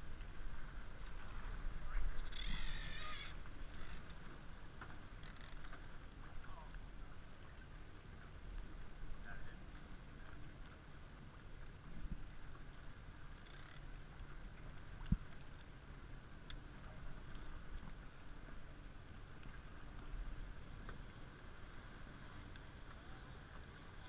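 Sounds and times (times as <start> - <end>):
small boat rumble: 0.0 - 24.0.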